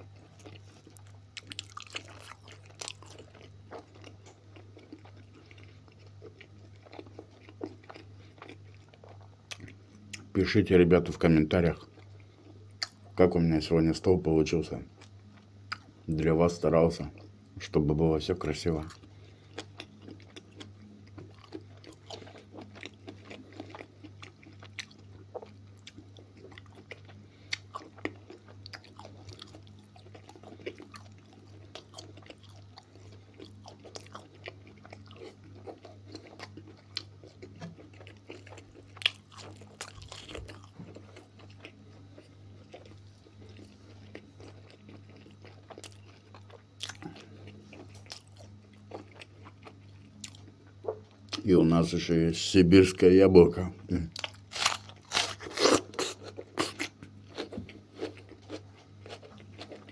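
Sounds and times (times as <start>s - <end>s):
chewing and wet mouth sounds: 0.0s - 10.4s, 11.0s - 13.5s, 14.5s - 17.3s, 18.0s - 51.5s, 53.9s - 59.9s
steady low hum: 0.0s - 59.9s.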